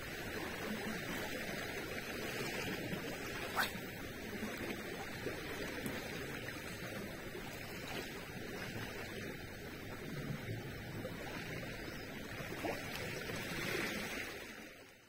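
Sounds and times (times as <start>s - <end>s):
light breeze: 0.0s - 14.9s
calm sea washing: 0.0s - 15.0s.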